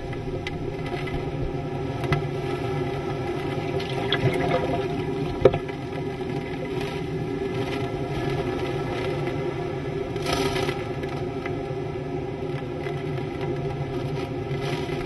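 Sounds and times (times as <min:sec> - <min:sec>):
wind and rain rushing: 0:00.0 - 0:15.0.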